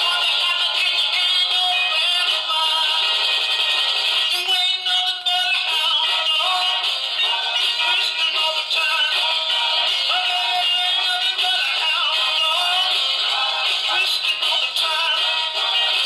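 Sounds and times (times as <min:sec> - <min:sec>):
tinny song from a record: 0:00.0 - 0:16.0.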